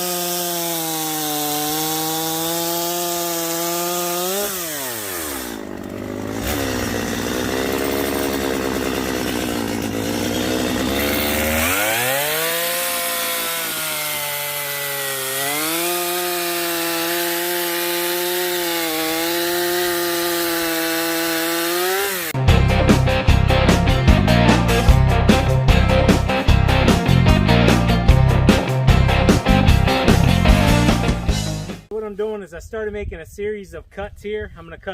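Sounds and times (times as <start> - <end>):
chainsaw idling and cutting wood: 0.0 - 31.3.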